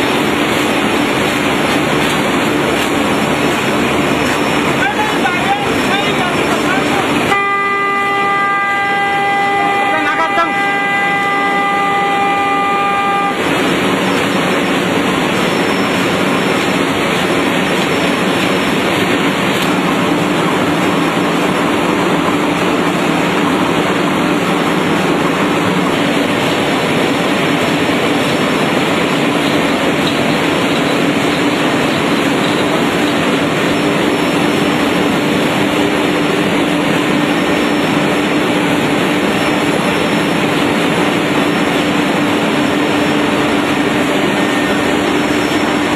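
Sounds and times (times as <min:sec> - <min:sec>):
machine running: 0:00.0 - 0:45.9.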